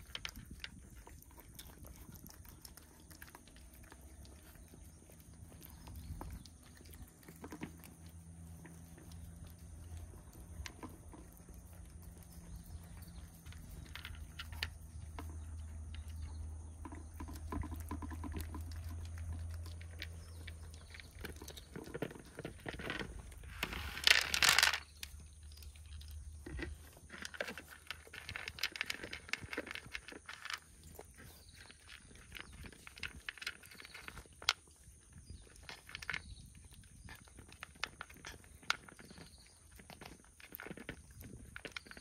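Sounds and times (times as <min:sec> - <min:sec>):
cats eating with small clicks: 0:00.0 - 0:42.0
low steady hum: 0:00.0 - 0:42.0.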